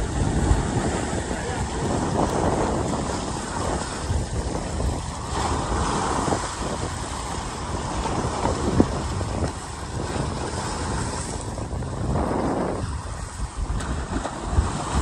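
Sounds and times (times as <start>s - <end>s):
waves breaking over rocks: 0.0s - 15.0s
wind buffeting microphone: 0.0s - 15.0s.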